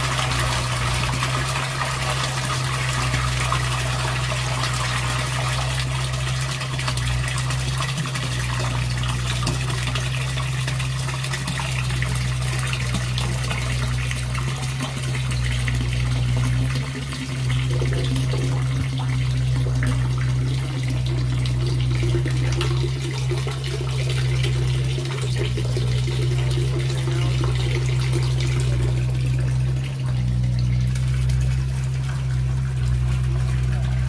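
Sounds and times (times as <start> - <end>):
pump humming: 0.0 - 34.0
water gushing and splashing: 0.0 - 34.0.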